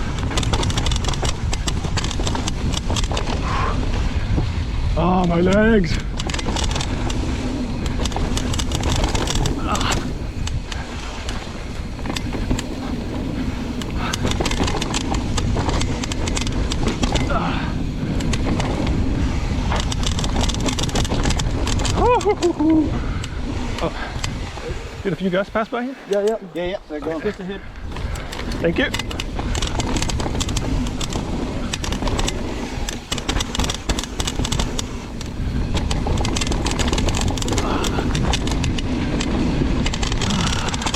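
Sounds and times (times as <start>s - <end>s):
bike rattling on rough trail: 0.0s - 40.9s
wind noise on microphone: 0.0s - 40.9s.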